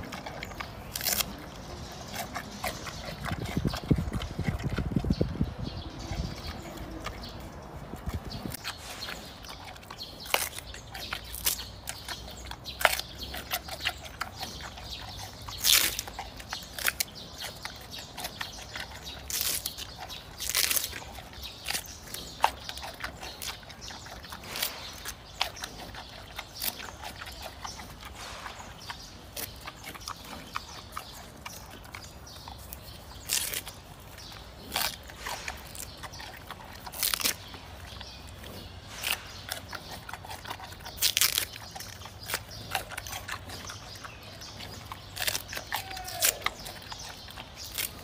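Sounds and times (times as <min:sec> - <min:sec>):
panda chewing bamboo crunching: 0:00.0 - 0:48.0.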